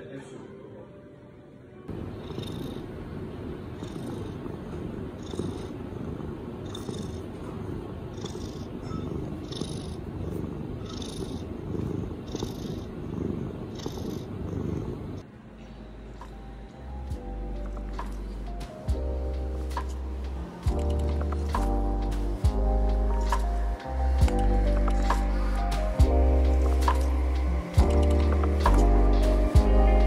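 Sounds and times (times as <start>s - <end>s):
cat purring: 1.9s - 15.2s, 17.5s - 30.0s.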